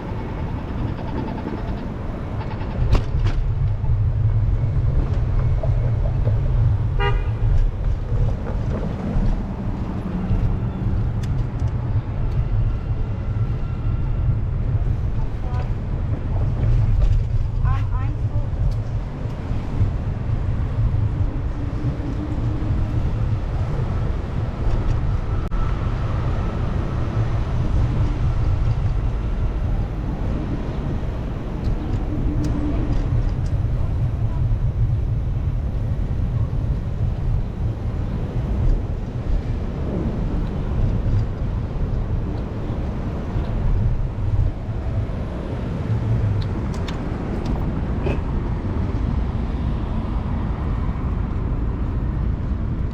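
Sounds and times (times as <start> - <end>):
city street traffic: 0.0 - 52.9
wind buffeting microphone: 0.0 - 52.9.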